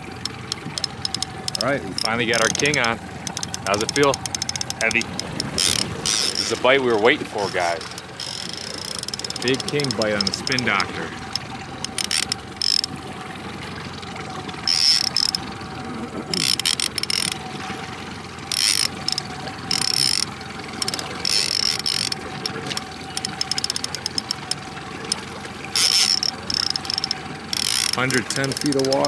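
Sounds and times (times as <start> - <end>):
fishing reel buzzing and clicking: 0.0 - 13.0, 14.6 - 17.4, 18.4 - 29.0
boat engine hum: 0.0 - 29.0.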